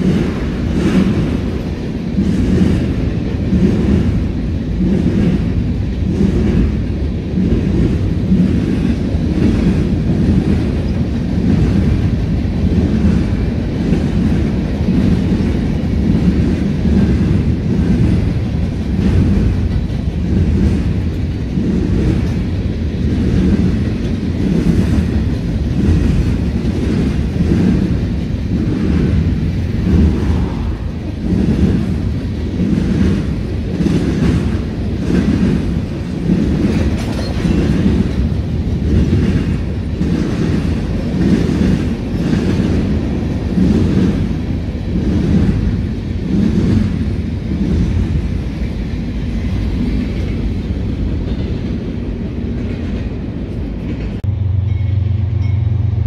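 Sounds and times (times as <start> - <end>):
freight train wheel clacks: 0.0 - 56.0.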